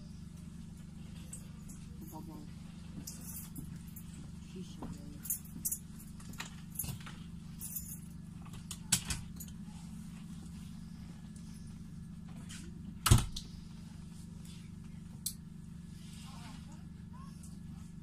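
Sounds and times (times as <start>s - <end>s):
train car low hum: 0.0s - 18.0s.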